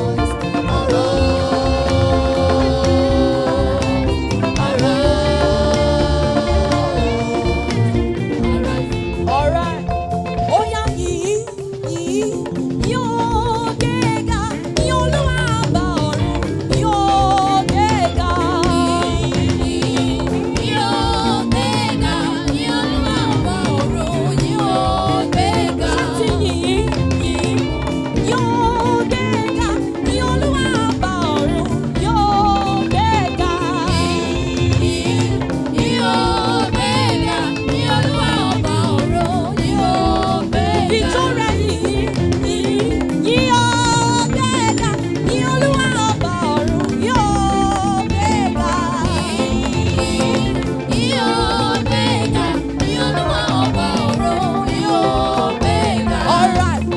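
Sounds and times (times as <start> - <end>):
instrumental accompaniment with beat: 0.0 - 56.9
person singing with vibrato: 0.0 - 56.9.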